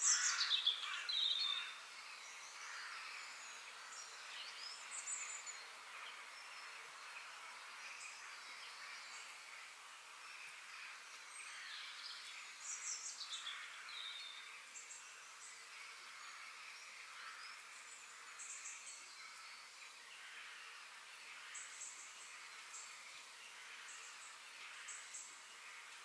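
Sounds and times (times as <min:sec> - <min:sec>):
high background hiss: 0:00.0 - 0:26.0.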